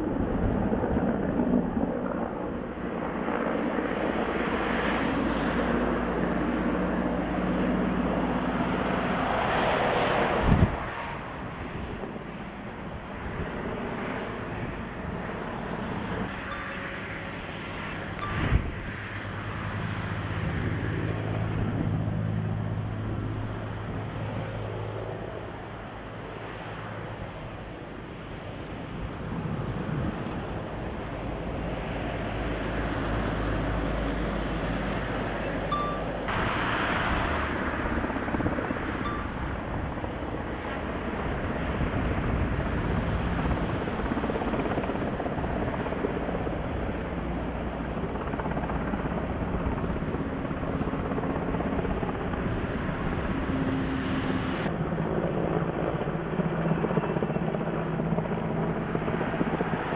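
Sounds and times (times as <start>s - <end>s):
helicopter rotor and engine: 0.0s - 59.9s.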